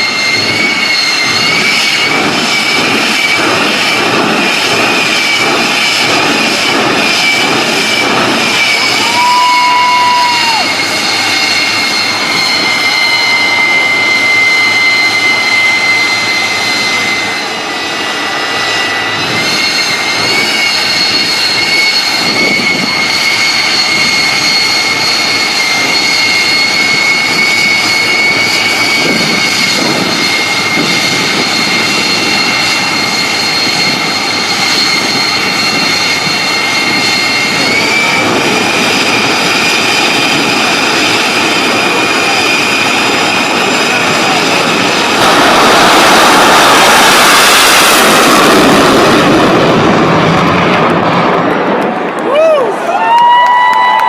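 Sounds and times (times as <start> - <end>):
jet engine whine and roar: 0.0 - 54.0.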